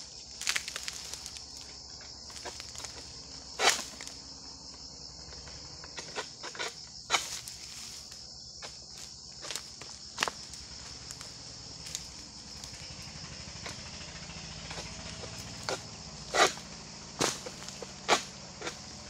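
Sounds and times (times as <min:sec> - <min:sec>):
sharp crunches: 0:00.0 - 0:04.2, 0:06.0 - 0:12.9, 0:14.6 - 0:19.0
high-pitched insect drone: 0:00.0 - 0:19.0.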